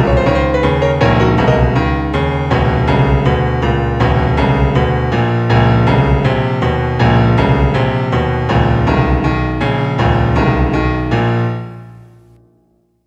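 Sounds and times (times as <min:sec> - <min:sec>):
piano-like keyboard music: 0:00.0 - 0:12.4.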